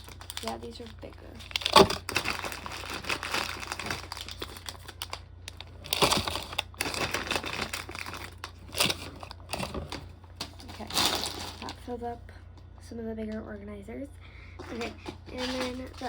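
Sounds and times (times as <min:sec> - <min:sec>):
plastic candy wrappers crinkling: 0:00.0 - 0:12.0, 0:14.6 - 0:16.0.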